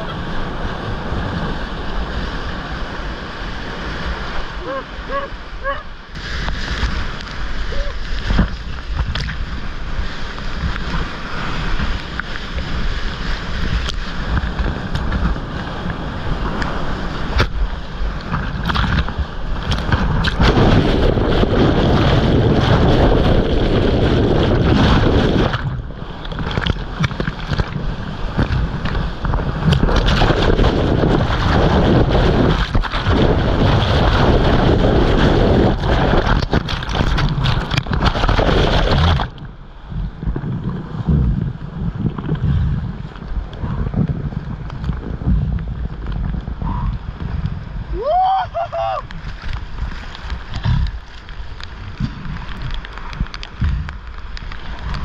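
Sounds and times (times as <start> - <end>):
churning river whitewater rushing: 0.0 - 55.0.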